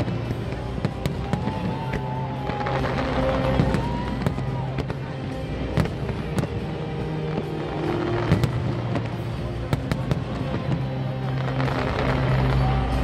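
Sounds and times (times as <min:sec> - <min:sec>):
fireworks bursting: 0:00.0 - 0:13.0
music: 0:00.0 - 0:13.0.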